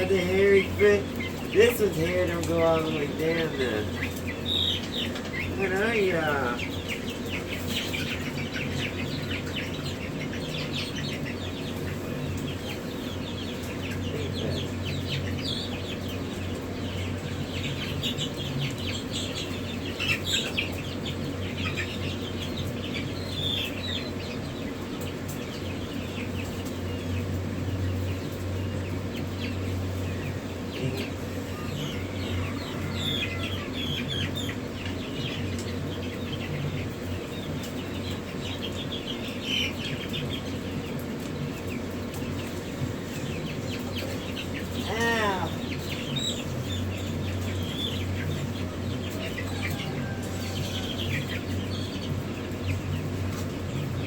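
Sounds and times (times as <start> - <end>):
chicks peeping: 0.0 - 54.0
steady low hum: 0.0 - 54.0.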